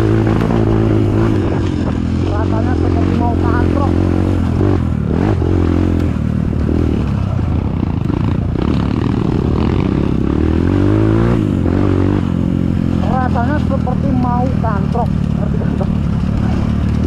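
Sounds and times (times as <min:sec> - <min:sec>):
trail bike engine running: 0:00.0 - 0:17.0.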